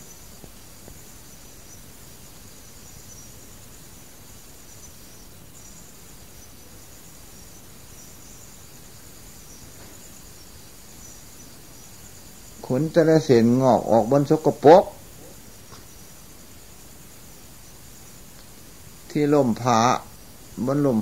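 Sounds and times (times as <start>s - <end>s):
crickets chirping: 0.0s - 21.0s
low background hiss: 0.0s - 21.0s.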